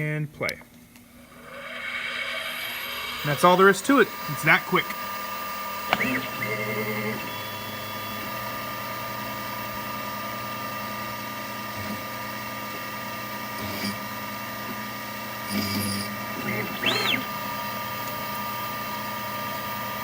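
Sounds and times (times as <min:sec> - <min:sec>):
spindle whine: 0:00.9 - 0:20.0
low motor hum: 0:01.1 - 0:20.0.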